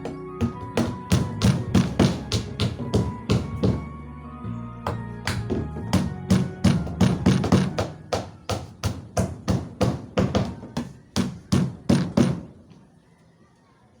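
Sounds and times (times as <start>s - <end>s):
hammer driving nails into wood: 0.0s - 3.8s, 4.9s - 12.6s.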